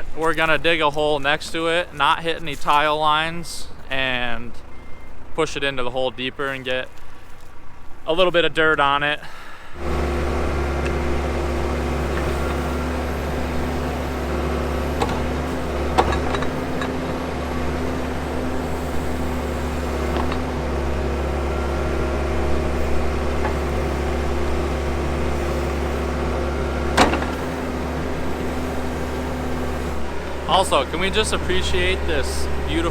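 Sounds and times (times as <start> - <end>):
backhoe diesel engine running: 0.0 - 32.9.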